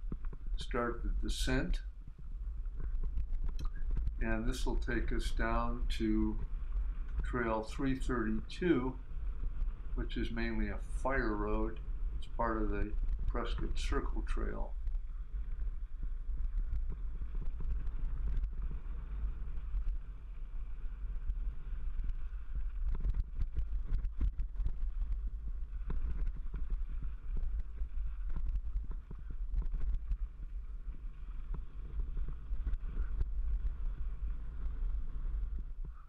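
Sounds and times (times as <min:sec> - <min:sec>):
wind and vibration rumble: 0:00.0 - 0:36.0.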